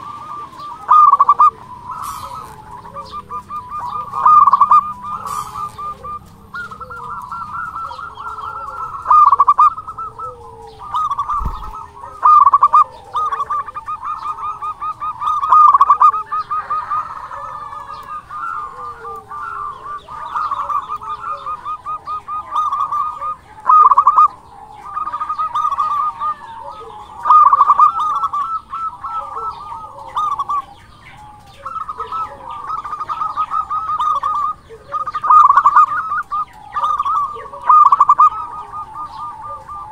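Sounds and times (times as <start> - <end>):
dove cooing trilled notes: 0.0 - 39.9.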